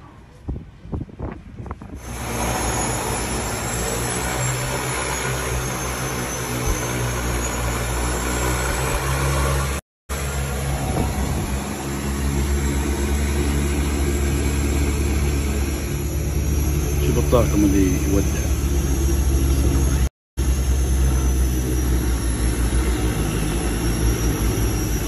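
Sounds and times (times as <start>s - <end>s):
turboprop engine drone: 1.0s - 25.0s
high turbine whine: 1.9s - 25.0s.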